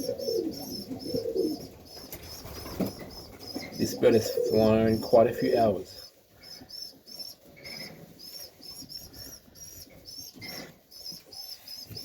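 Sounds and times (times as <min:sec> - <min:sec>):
young pigeons peeping: 0:00.0 - 0:12.0.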